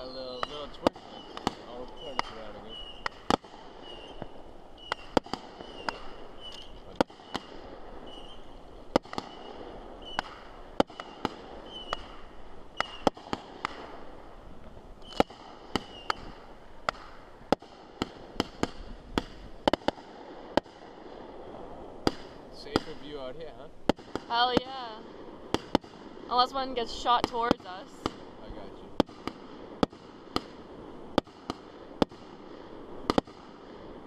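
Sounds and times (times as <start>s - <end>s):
fireworks bangs and pops: 0.0s - 34.0s
steady background hiss: 0.0s - 34.0s.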